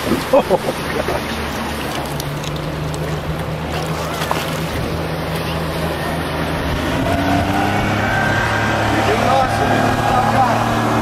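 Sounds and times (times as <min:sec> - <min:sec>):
boat engine humming: 0:00.0 - 0:11.0
river water wash: 0:00.0 - 0:11.0.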